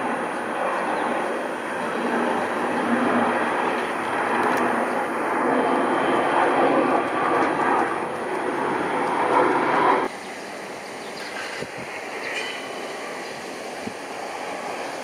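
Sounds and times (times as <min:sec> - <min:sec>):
jet airliner roar: 0:00.0 - 0:15.0.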